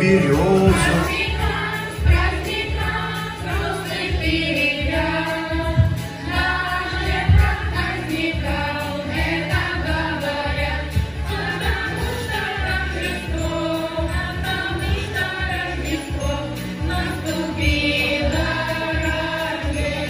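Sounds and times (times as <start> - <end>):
children's choir singing: 0.0 - 20.0
instrumental accompaniment with beat: 0.0 - 20.0.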